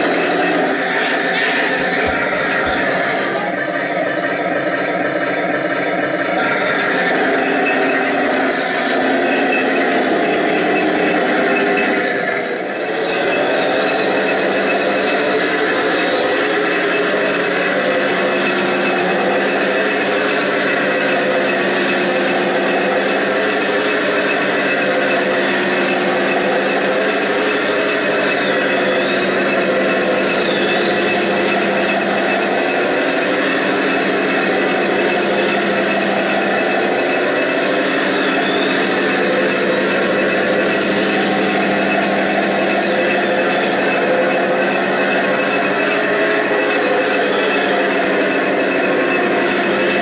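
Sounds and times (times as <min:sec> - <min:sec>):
toy tank motor whine: 0:00.0 - 0:50.0.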